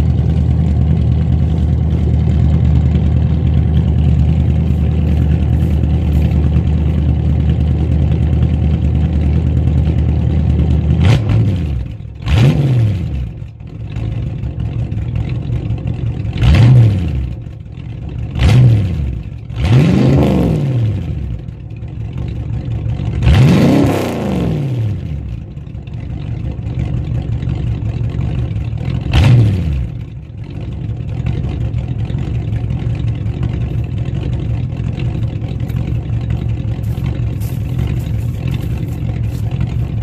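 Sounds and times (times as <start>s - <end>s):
car engine revving and idling: 0.0s - 40.0s.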